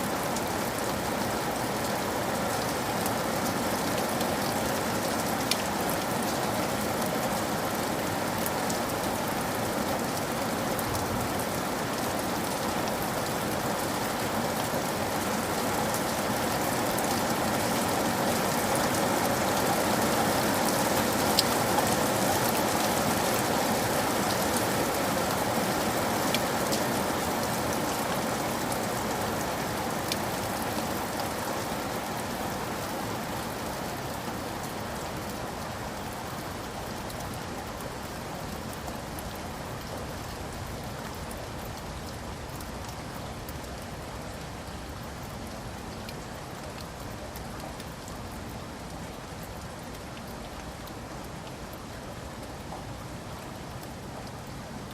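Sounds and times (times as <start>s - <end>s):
rain falling on a roof: 0.0s - 54.9s.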